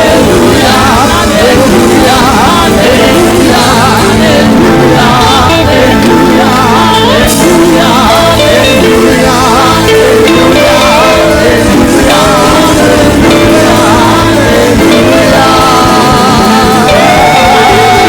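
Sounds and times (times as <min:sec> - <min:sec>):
band playing gospel music: 0:00.0 - 0:18.0
church choir singing: 0:00.0 - 0:18.0.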